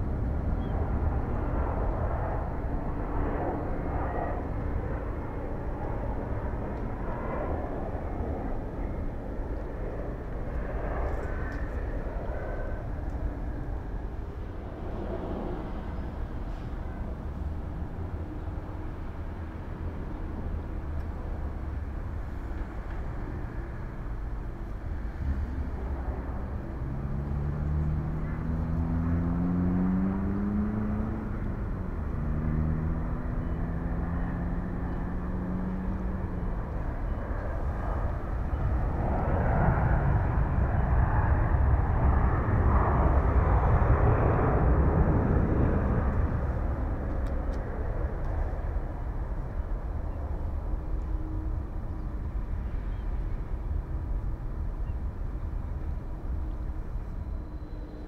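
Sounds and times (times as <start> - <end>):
distant jet engine rumble: 0.0 - 58.0
jet rushing roar: 0.0 - 58.0.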